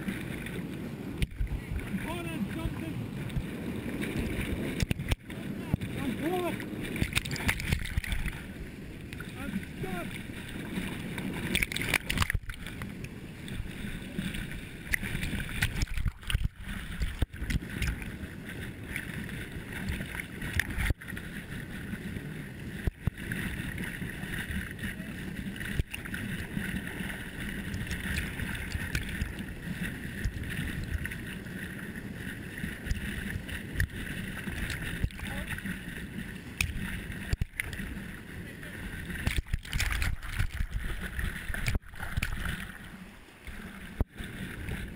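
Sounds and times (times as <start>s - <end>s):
river water rushing and splashing: 0.0s - 44.9s.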